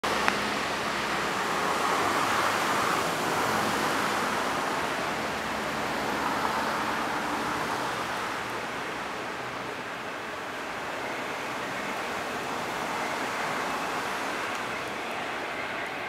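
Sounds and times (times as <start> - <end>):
distant road traffic: 0.0 - 16.0
passing diesel train: 0.0 - 16.0.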